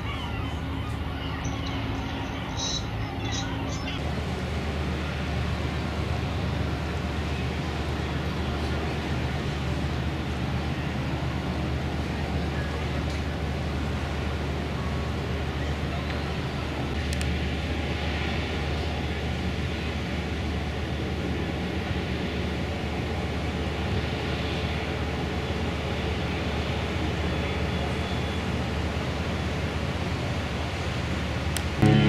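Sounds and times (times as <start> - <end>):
ship propulsion rumble: 0.0 - 32.0.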